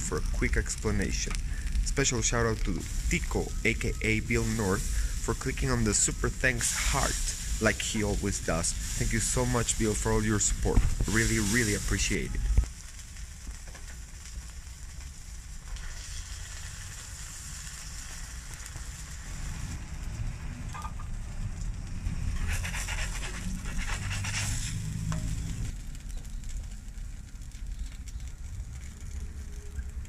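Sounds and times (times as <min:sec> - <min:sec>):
low rumble: 0:00.0 - 0:13.6, 0:14.2 - 0:30.0
food sizzling on griddle: 0:00.0 - 0:30.0.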